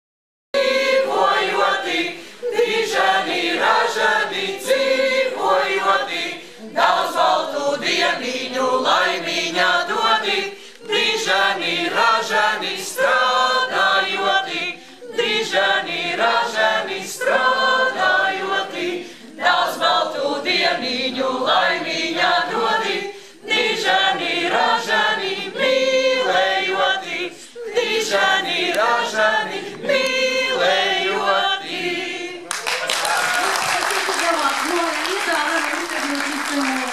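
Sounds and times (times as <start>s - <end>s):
mixed choir singing: 0.6s - 33.3s.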